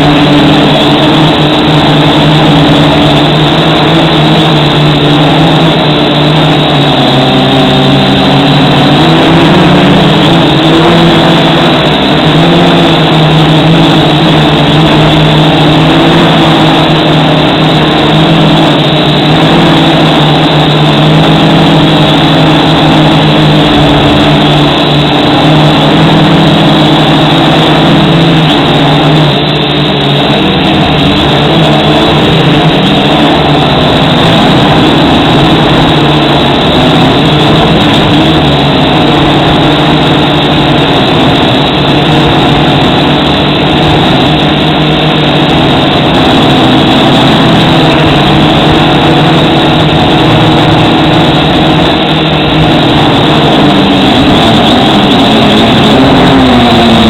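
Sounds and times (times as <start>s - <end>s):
motor hum: 0.0s - 57.0s.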